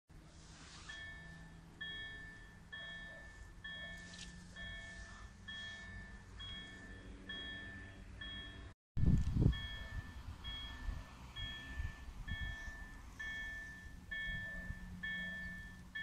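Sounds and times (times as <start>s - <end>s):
level-crossing warning bell ringing: 0.8s - 8.8s, 9.4s - 16.0s.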